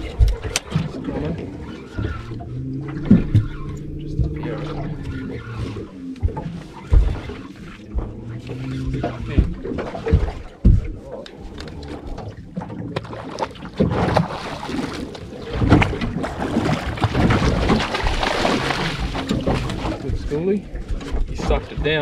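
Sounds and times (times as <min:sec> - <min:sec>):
water noise: 0:00.0 - 0:22.0.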